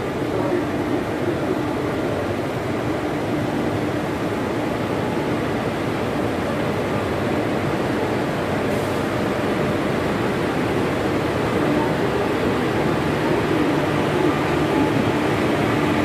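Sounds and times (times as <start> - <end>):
electric locomotive humming: 0.0 - 16.0.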